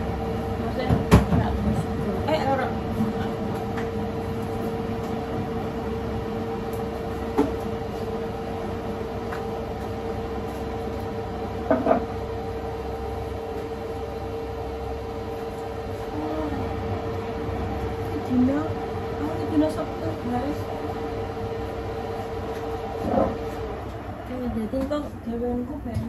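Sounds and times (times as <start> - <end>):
range hood fan humming: 0.0 - 26.0.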